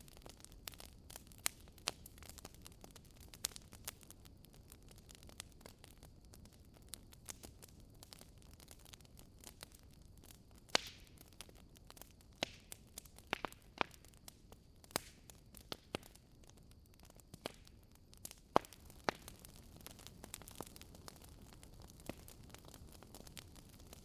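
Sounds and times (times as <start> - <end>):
fire hissing: 0.0 - 24.0
wood fire crackling and popping: 0.0 - 24.0.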